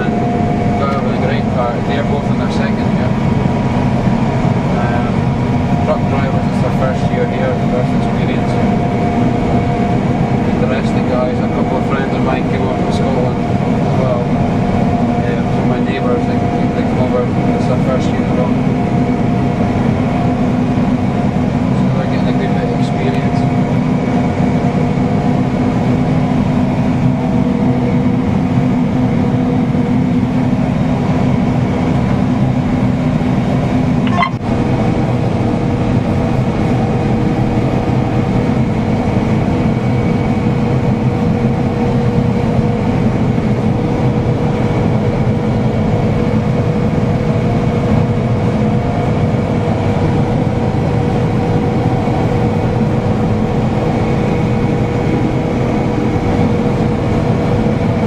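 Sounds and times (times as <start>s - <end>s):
combine harvester machinery drone: 0.0s - 58.0s.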